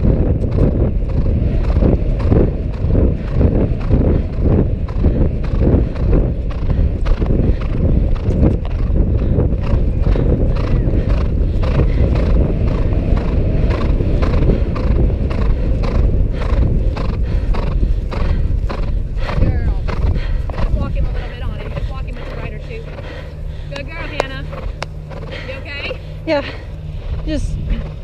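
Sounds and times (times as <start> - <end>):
horse hooves striking turf: 0.3 - 26.4.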